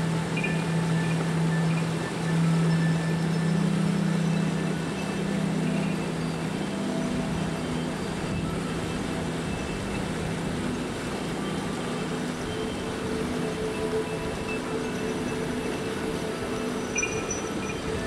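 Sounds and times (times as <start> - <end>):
ambient synth music: 0.0 - 18.0
river water rushing: 0.0 - 18.0.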